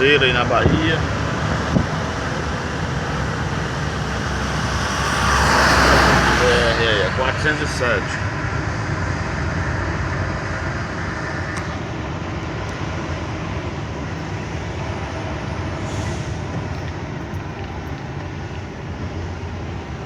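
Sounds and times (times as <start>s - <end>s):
truck engine rumble: 0.0s - 20.0s
tyre and road noise: 0.0s - 20.0s.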